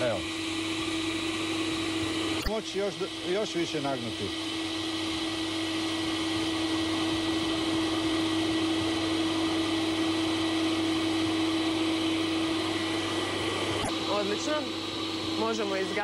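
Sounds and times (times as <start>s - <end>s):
electric air blower running: 0.0s - 16.0s.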